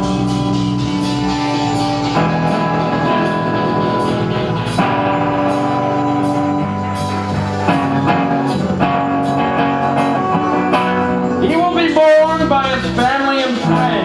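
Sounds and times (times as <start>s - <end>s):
drums: 0.0s - 14.0s
electric guitar chords: 0.0s - 14.0s.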